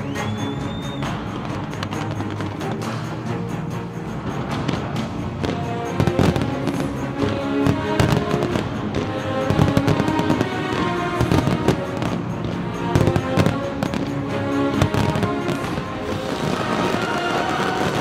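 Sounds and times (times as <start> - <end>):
fireworks bursting: 0.0 - 18.0
loud music: 0.0 - 18.0.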